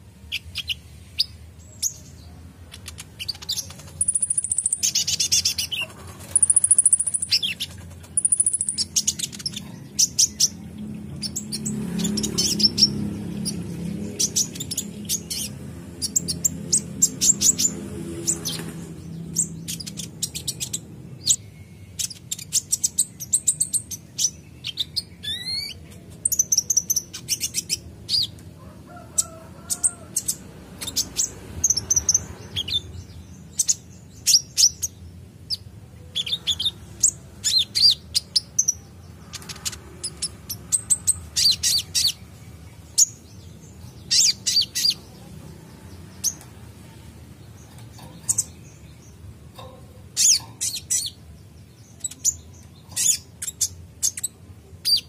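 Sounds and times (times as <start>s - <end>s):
bird chirping and trilling: 0.3s - 46.7s, 47.4s - 55.0s.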